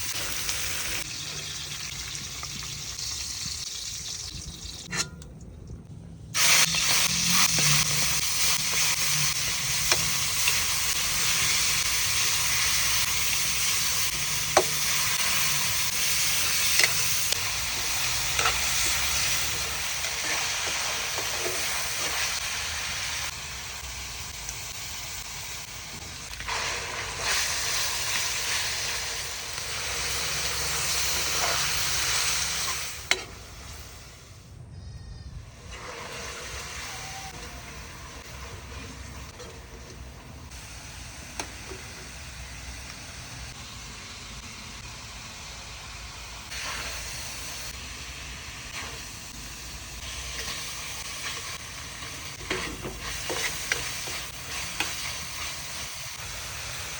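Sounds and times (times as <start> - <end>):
food sizzling in oil: 0.0 - 4.9, 6.4 - 34.1, 35.6 - 56.9.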